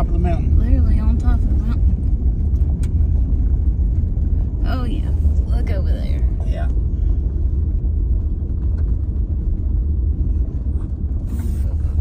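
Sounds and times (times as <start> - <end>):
pickup engine drone in cab: 0.0 - 12.0.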